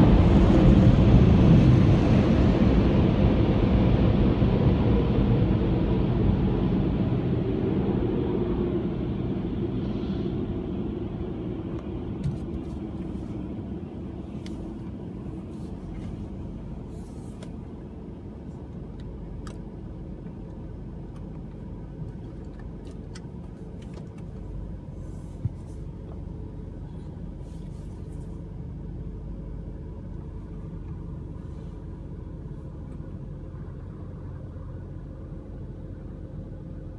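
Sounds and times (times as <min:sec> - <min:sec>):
car engine idling: 0:07.3 - 0:36.9.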